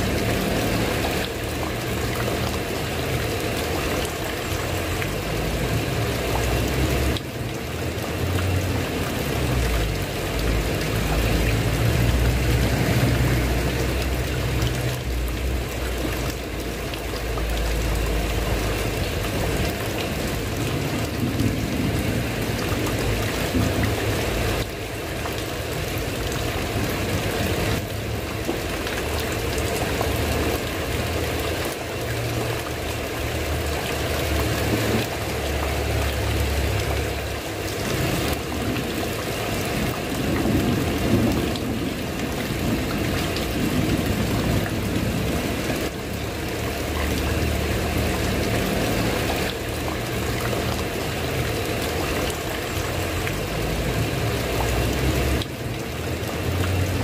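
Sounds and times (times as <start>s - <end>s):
heavy rain on tile roof: 0.0s - 57.0s.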